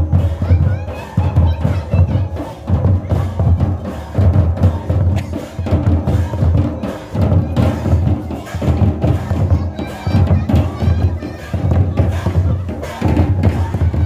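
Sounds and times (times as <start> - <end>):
drums playing a dance rhythm: 0.0 - 14.0
music: 0.0 - 14.0.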